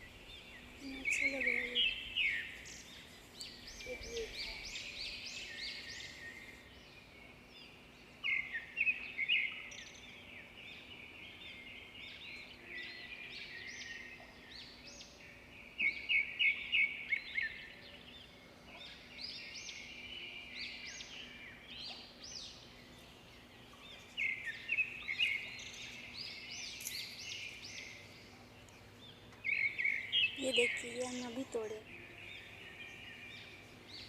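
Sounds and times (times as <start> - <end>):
birds chirping and trilling: 0.0 - 34.0.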